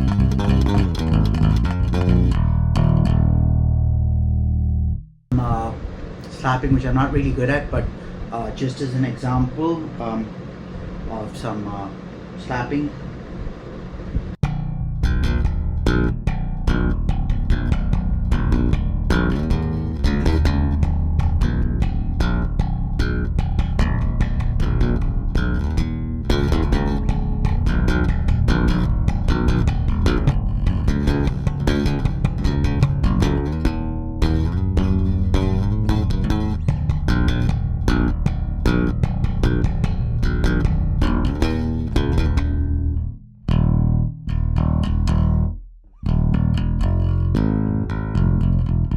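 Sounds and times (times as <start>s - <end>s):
slap bass playing: 0.0s - 5.8s, 14.2s - 48.9s.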